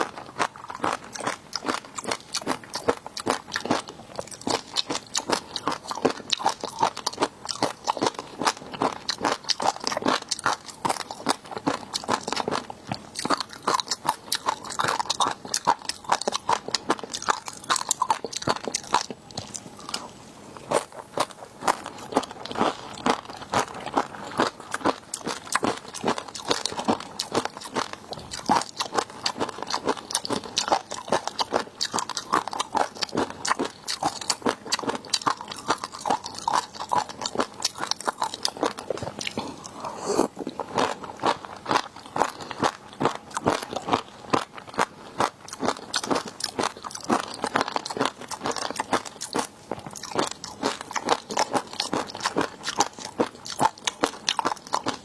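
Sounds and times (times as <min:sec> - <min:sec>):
crunchy biting and chewing: 0:00.0 - 0:55.0.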